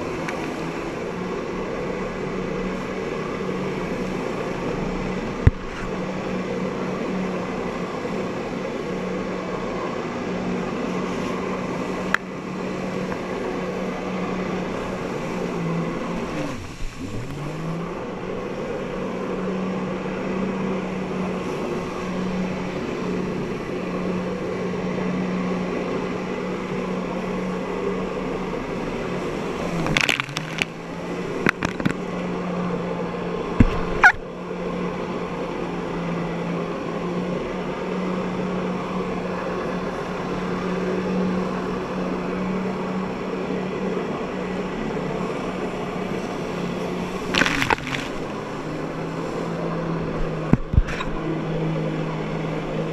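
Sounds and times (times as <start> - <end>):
watercraft engine at high revs: 0.0 - 52.9.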